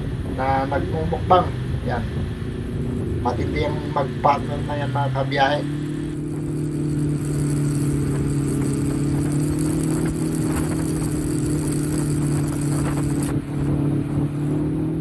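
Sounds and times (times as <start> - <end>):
motorcycle engine cruising: 0.0 - 15.0
wind rumble on microphone: 0.0 - 15.0.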